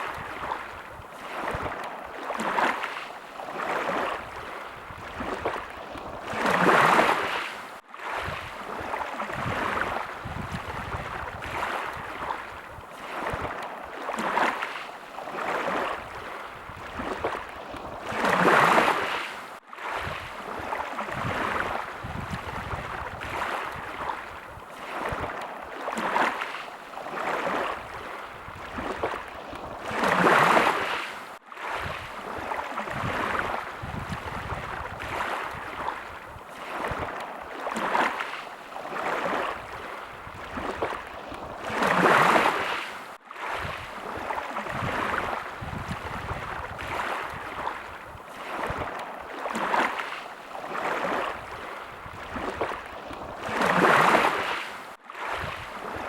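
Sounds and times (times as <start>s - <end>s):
small sea waves lapping: 0.0s - 56.0s.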